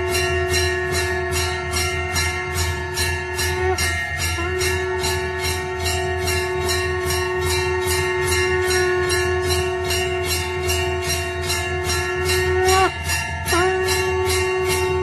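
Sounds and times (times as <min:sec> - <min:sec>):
bell rung rapidly: 0:00.0 - 0:15.0
long steady held note: 0:00.0 - 0:15.0.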